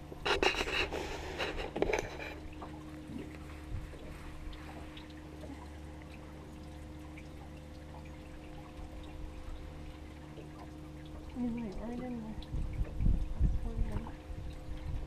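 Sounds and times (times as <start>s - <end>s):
steady low hum: 0.0s - 15.0s
water splashing and sloshing: 0.0s - 15.0s.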